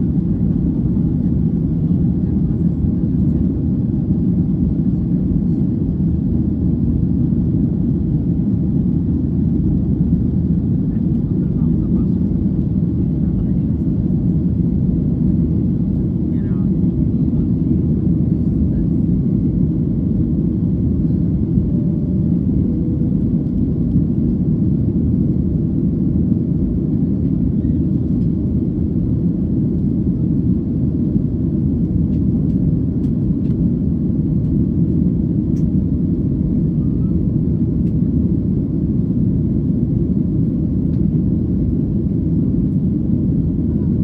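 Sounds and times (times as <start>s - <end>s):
airliner engine rumble in cabin: 0.0s - 44.0s.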